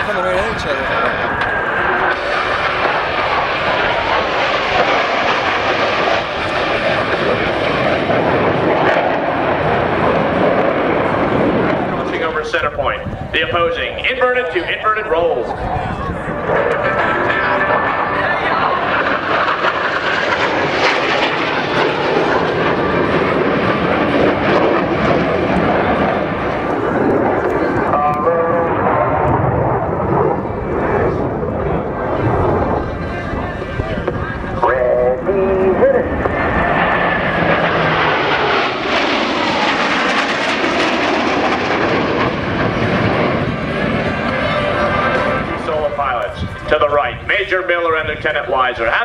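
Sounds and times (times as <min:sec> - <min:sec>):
jet aircraft flying low: 0:00.0 - 0:49.0.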